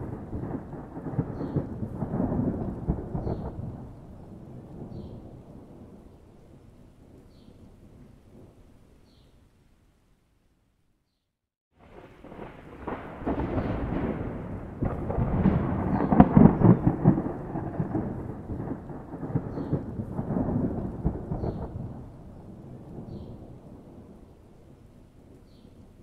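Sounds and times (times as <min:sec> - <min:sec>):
thunder rumbling: 0:00.0 - 0:08.8, 0:11.8 - 0:26.0.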